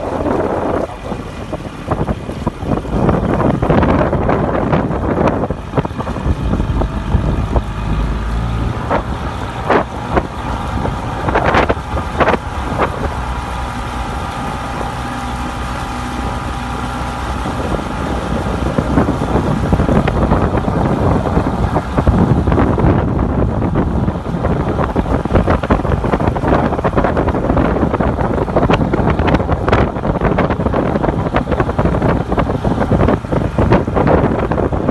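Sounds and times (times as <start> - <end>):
motorboat engine running: 0.0 - 34.9
wind buffeting microphone: 0.0 - 34.9.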